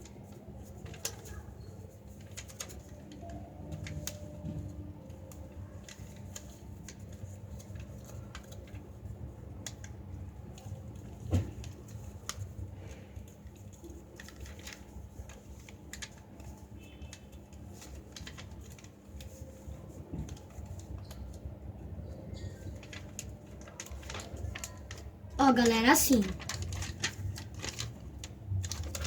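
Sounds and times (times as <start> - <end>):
paper being folded and creased: 0.2 - 29.0.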